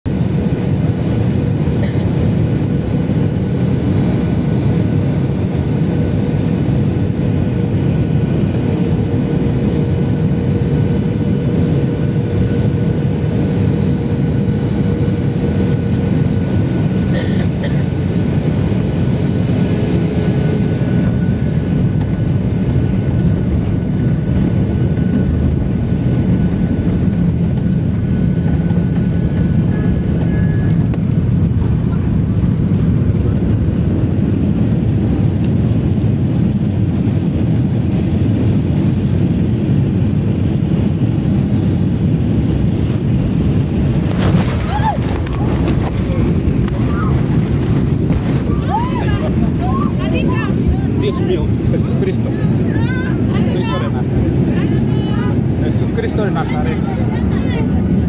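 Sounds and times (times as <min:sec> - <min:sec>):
jet engines and rushing air: 0:00.1 - 0:58.0.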